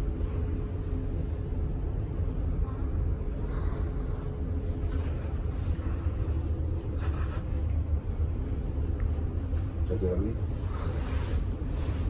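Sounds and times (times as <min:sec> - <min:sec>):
ship engine rumble and hum: 0:00.0 - 0:12.0.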